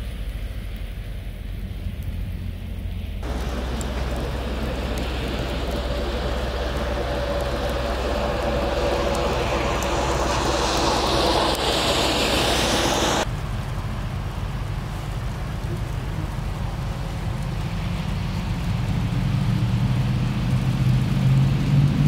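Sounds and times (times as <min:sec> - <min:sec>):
low engine drone: 0:00.0 - 0:22.0
tyre hiss on wet road: 0:00.0 - 0:22.0.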